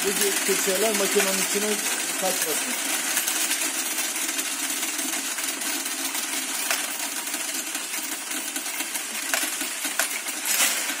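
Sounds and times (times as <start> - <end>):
coins rattling through machine: 0.0 - 11.0.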